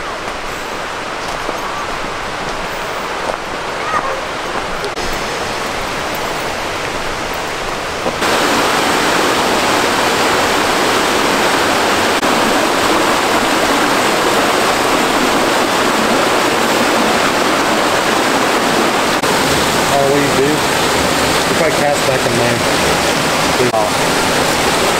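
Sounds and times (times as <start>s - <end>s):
stream rushing over boulders: 0.0s - 24.9s.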